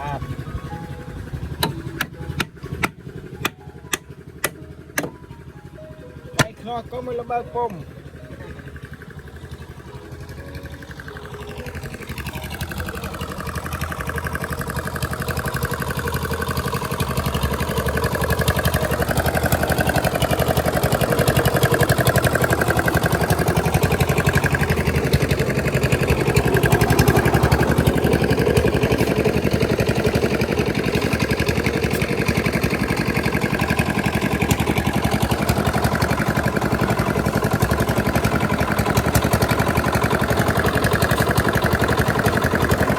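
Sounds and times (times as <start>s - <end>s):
engine running with fast beat: 0.0s - 42.9s.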